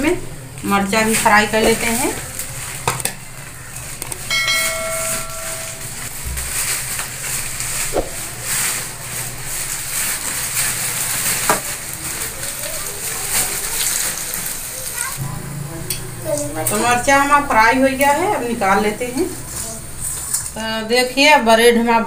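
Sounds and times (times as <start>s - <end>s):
hot oil sizzling: 0.0s - 21.4s.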